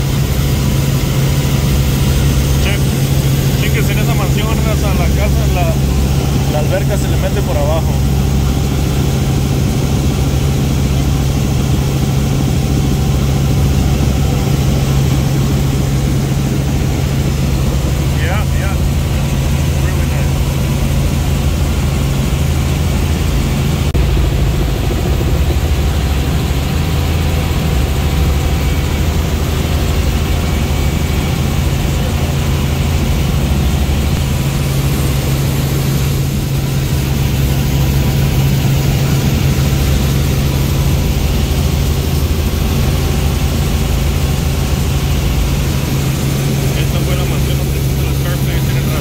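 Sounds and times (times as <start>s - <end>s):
helicopter engine and rotor drone: 0.0s - 49.0s.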